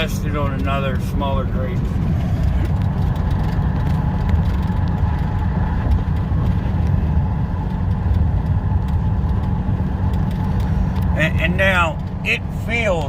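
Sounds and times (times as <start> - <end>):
deep diesel engine drone: 0.0 - 13.0.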